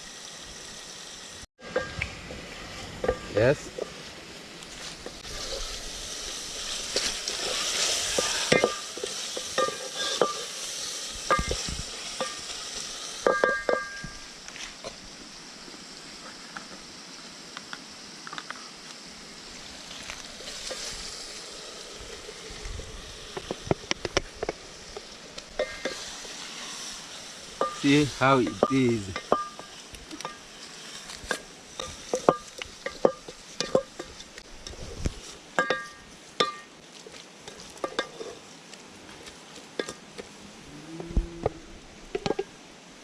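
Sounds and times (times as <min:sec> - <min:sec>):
sauce sizzling in a pot: 0:00.0 - 0:43.0.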